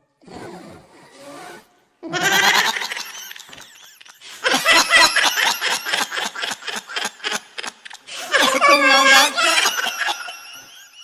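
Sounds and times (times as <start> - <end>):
baby laughing: 2.1 - 11.0.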